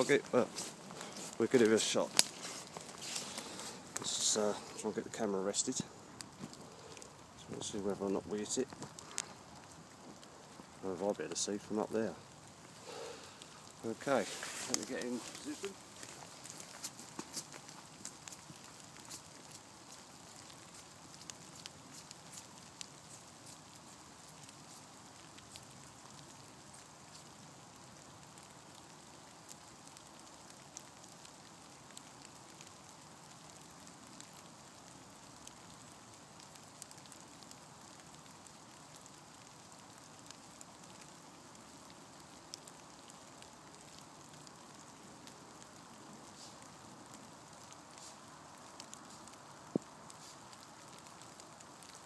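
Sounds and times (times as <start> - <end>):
light rain falling: 0.0 - 52.0
raindrops ticking close by: 0.0 - 52.0.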